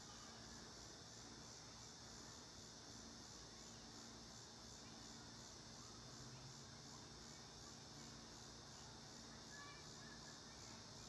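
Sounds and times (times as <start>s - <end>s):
faint pulsing insect chorus: 0.0s - 11.0s.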